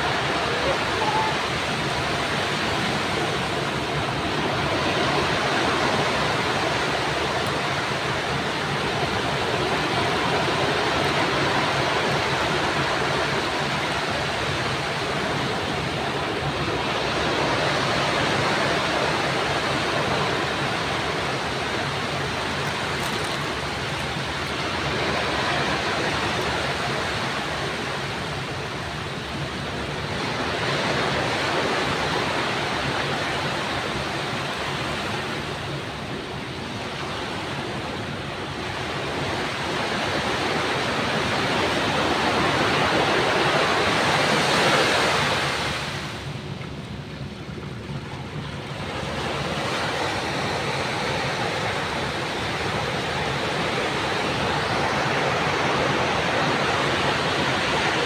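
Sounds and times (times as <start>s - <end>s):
sea waves washing: 0.0s - 58.0s.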